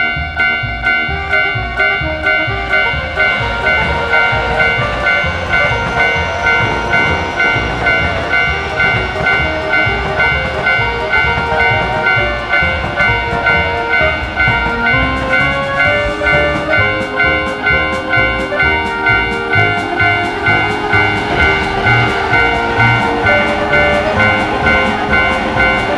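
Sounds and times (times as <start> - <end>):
railroad crossing alarm ringing: 0.0 - 25.9
train rumbling: 0.0 - 25.9.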